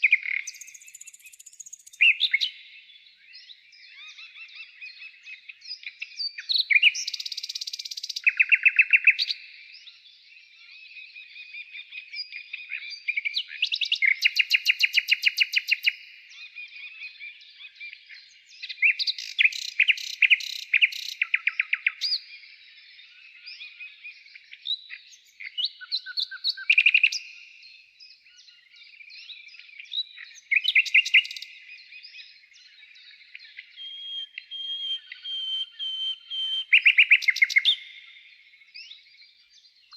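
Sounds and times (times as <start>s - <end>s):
small birds chirping trills: 0.0s - 39.9s.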